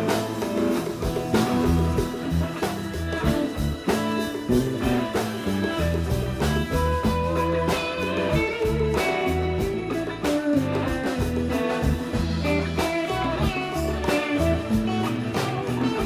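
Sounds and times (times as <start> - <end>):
bass and drums: 0.0 - 16.0
electric guitar lead: 0.0 - 16.0.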